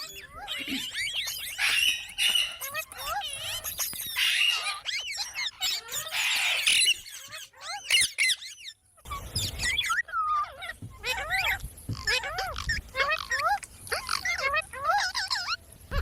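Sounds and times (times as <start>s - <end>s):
parrot chirping and squawking: 0.0s - 16.0s.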